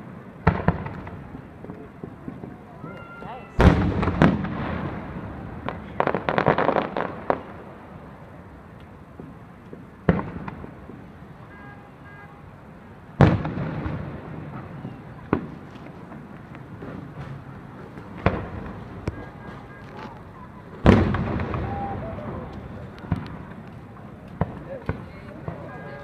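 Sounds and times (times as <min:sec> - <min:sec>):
fireworks booming: 0:00.0 - 0:08.5, 0:09.1 - 0:11.9, 0:12.7 - 0:26.0.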